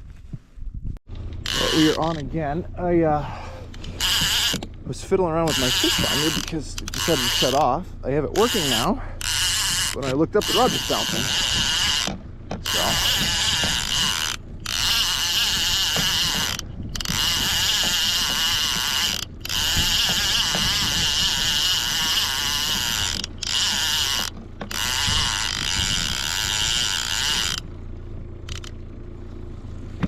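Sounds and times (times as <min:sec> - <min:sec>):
fishing reel whirring: 0:01.4 - 0:02.3, 0:03.3 - 0:04.7, 0:05.4 - 0:07.7, 0:08.3 - 0:27.7, 0:28.5 - 0:28.7.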